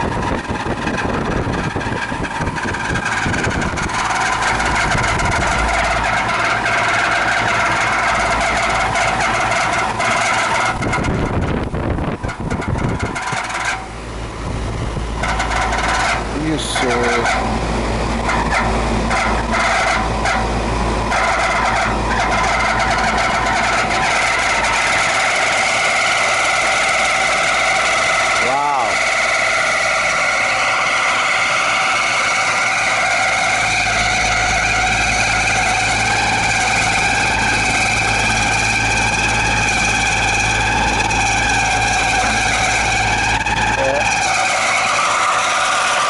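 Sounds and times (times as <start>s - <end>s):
air conditioner fan motor rattling: 0.0s - 46.0s
steady low hum: 0.0s - 46.0s.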